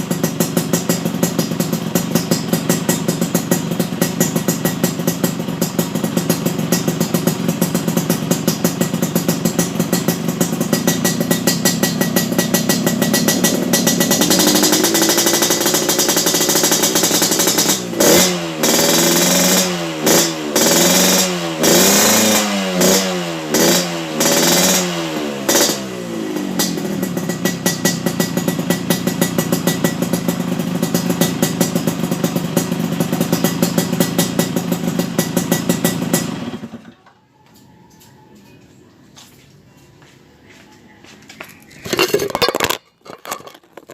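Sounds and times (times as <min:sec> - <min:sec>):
two-stroke engine idling and revving: 0:00.0 - 0:37.0.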